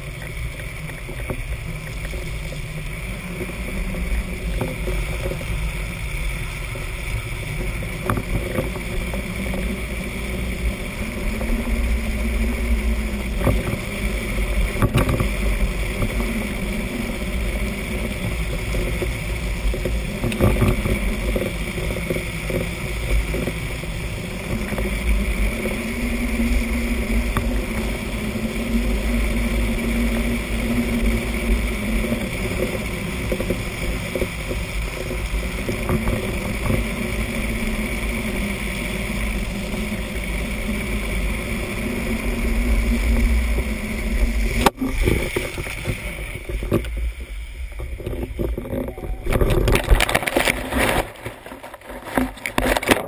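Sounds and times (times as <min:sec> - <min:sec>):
wheels rumbling on asphalt: 0:00.0 - 0:53.0
wind buffeting microphone: 0:00.0 - 0:53.0.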